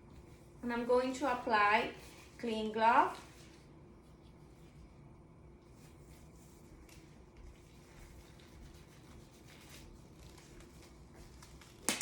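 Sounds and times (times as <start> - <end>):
gloves rustling: 0.0 - 12.0
low room hum: 0.0 - 12.0.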